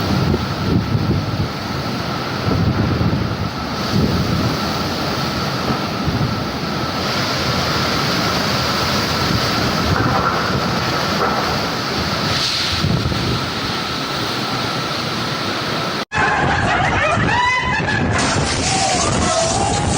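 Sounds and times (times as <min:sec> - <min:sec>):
wind blowing across microphone: 0:00.0 - 0:19.9.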